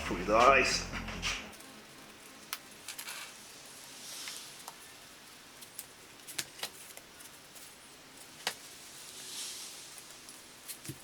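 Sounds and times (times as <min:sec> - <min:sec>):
soft rustling: 0:01.6 - 0:11.0.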